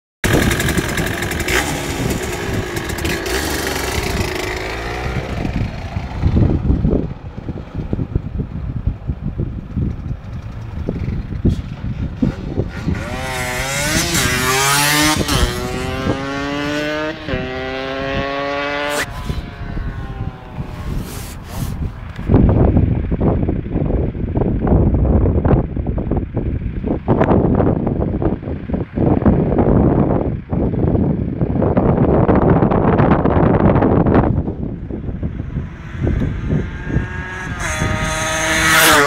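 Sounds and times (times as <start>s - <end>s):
motorcycle engine revving: 0.2s - 32.1s, 33.8s - 39.0s.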